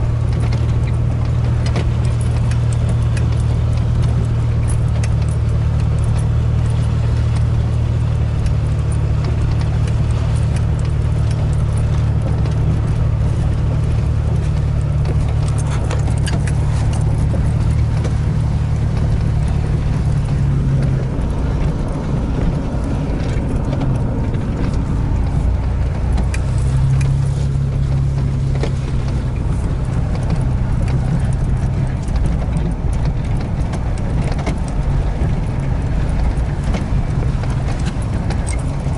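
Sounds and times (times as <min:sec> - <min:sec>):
clicks and rattles: 0:00.0 - 0:38.9
vehicle engine hum: 0:00.0 - 0:38.9.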